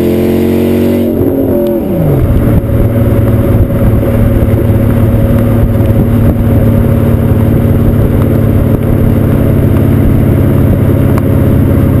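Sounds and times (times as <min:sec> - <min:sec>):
loud car exhaust drone: 0:00.0 - 0:12.0.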